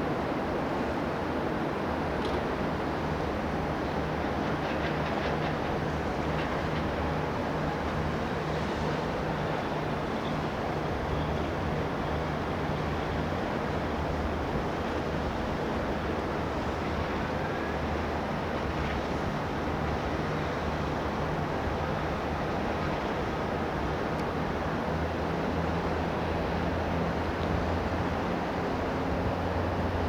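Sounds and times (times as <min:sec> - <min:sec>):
wind: 0:00.0 - 0:30.0.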